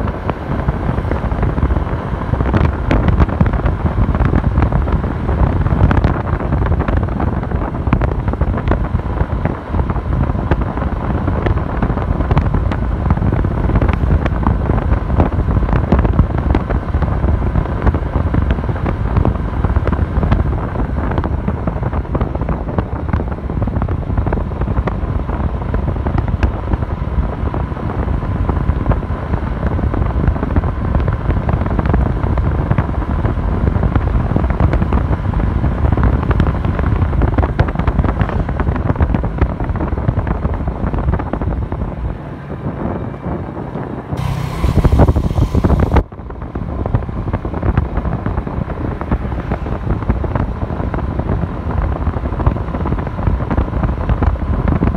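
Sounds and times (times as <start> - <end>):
motorcycle engine running: 0.0 - 54.9
road noise: 0.0 - 54.9
wind buffeting microphone: 0.0 - 54.9.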